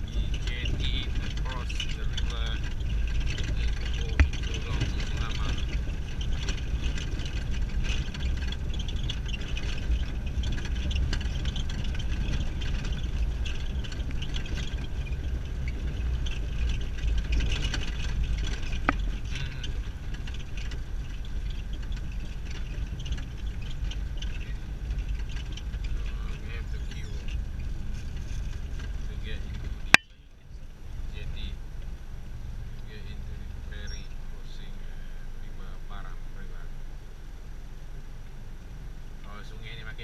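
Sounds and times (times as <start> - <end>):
light rattles and ticks: 0.0 - 36.6
car rumbling on gravel road: 0.0 - 40.0.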